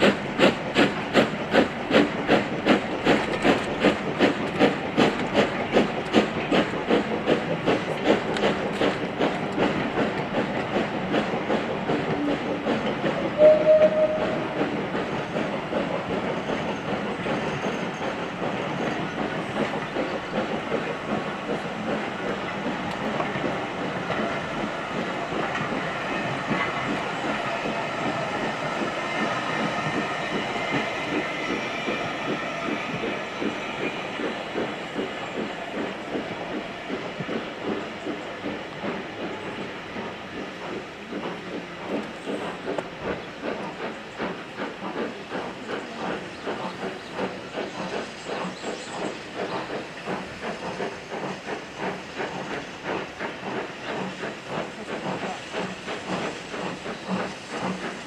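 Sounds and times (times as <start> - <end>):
train wheels clicking over rails: 0.0 - 58.0.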